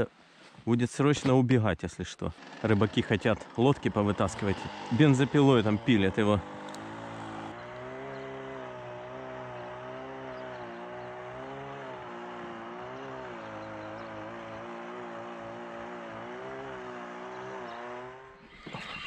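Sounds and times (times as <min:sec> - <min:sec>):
chainsaw cutting ice: 0:02.3 - 0:19.0.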